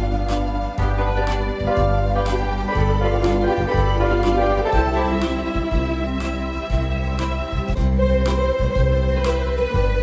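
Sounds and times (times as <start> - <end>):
keyboard organ chords: 0.0 - 8.9
low bass line: 0.0 - 10.0
soft beat: 0.0 - 10.0.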